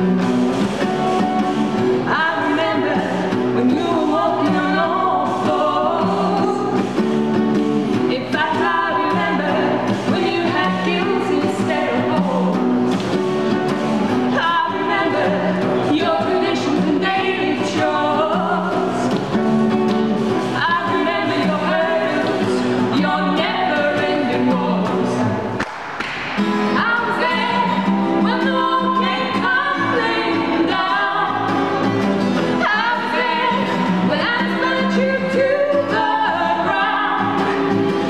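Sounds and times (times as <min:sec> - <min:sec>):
strummed acoustic guitar: 0:00.0 - 0:38.0
women singing in harmony: 0:01.9 - 0:12.8, 0:14.1 - 0:19.2, 0:20.0 - 0:25.6, 0:26.7 - 0:38.0.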